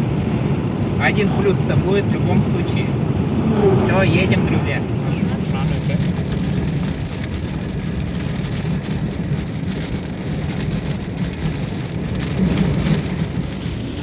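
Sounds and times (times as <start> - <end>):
engine and tyres rumbling: 0.0 - 14.0
rain and water spray hiss: 0.0 - 14.0.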